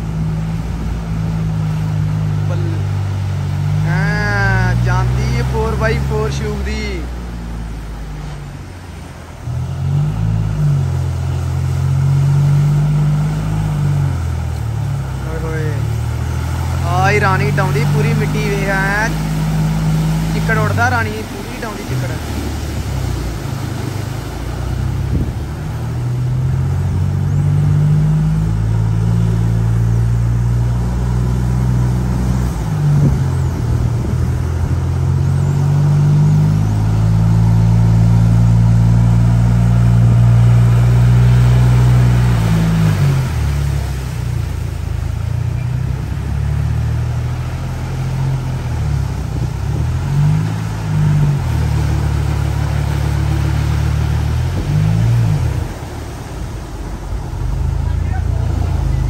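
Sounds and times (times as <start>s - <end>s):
engines labouring through mud: 0.0s - 59.0s
mud splashing from wheels: 0.0s - 59.0s.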